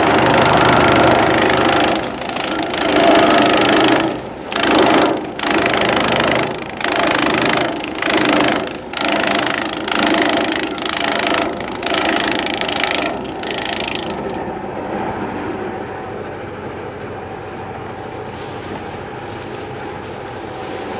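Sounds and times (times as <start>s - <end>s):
grass chopper engine clattering: 0.0s - 14.5s, 16.7s - 20.9s.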